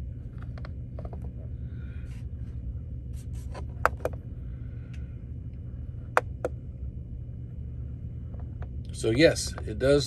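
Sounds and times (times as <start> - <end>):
steady low machine hum: 0.0 - 10.0.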